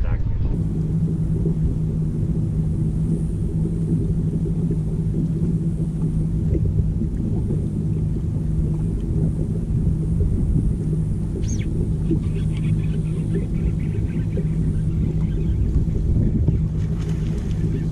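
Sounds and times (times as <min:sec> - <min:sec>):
boat motor running: 0:00.0 - 0:17.9.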